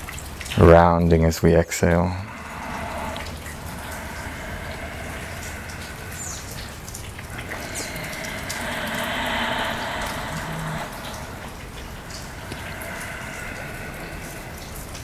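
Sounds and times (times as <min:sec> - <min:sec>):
falling rain: 0:00.0 - 0:15.0.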